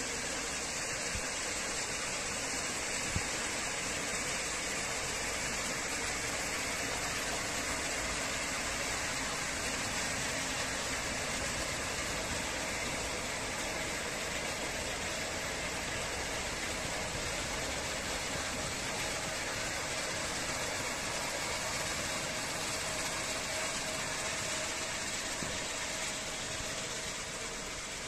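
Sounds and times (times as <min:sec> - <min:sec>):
faint constant hum: 0:00.0 - 0:28.0
machine hissing: 0:00.0 - 0:28.0.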